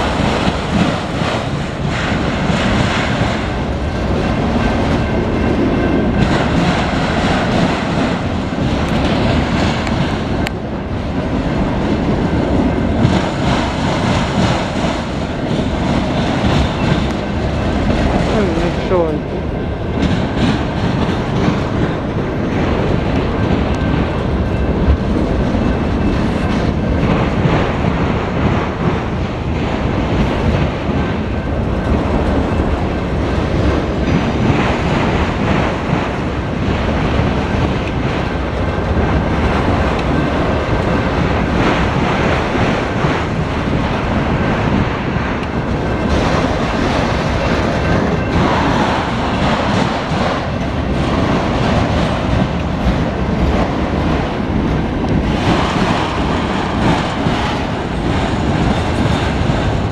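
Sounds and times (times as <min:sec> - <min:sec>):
steel wheels running on rails: 0:00.0 - 0:59.9.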